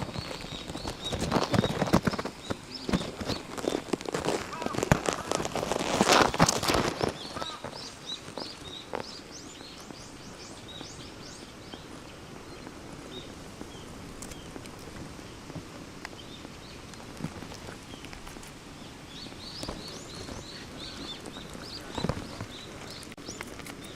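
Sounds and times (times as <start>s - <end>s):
low outdoor background: 0.0s - 23.9s
small birds chirping: 0.0s - 23.9s.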